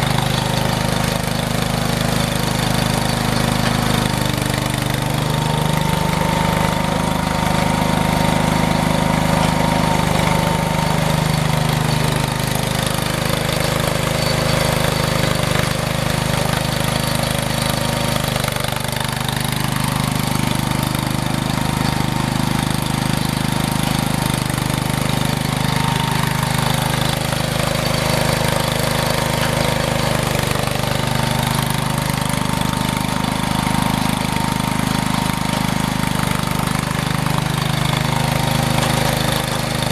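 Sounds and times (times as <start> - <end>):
snow-clearing machine engine running: 0.0 - 39.9.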